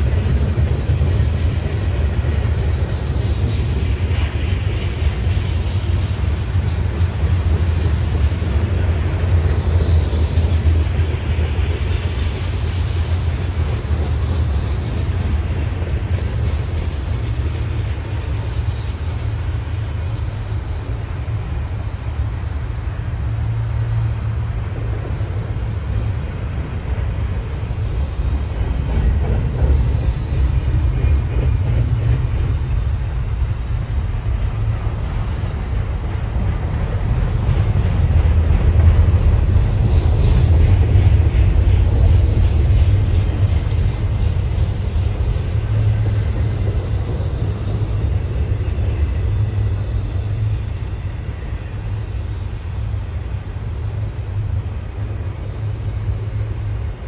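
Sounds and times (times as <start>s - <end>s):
freight train cars rumbling on rails: 0.0s - 57.0s.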